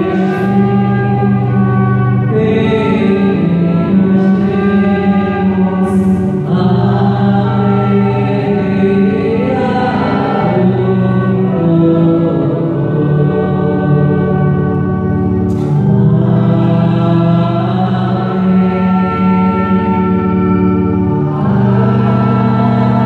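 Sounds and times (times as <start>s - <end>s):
congregation singing a hymn: 0.0s - 23.0s
electronic keyboard: 0.0s - 23.0s
trumpet playing melody: 0.0s - 23.0s.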